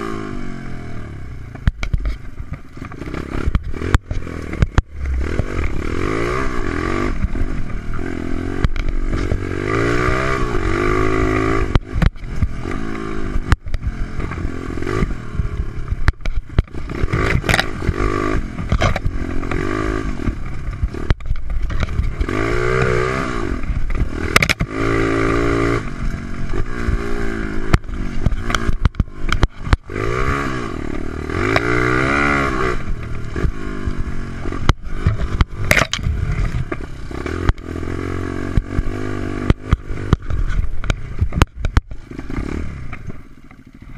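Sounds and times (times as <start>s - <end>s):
motorbike engine revving: 0.0s - 43.9s
knocks and clatter of bike: 1.4s - 43.9s.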